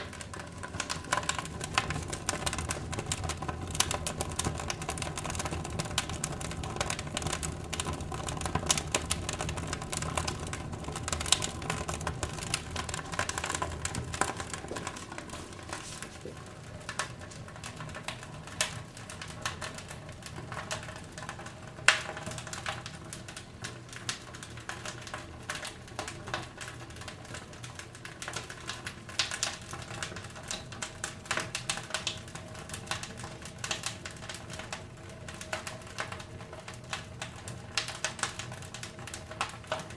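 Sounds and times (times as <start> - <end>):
firewood crackling in stove: 0.0 - 39.9.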